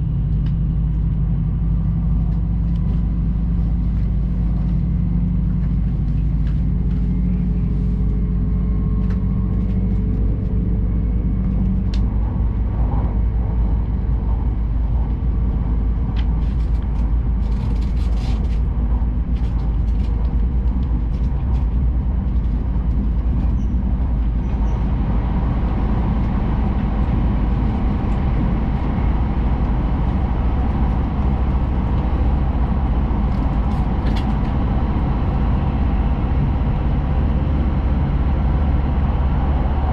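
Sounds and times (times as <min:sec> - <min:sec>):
train running noise at speed: 0:00.0 - 0:39.9.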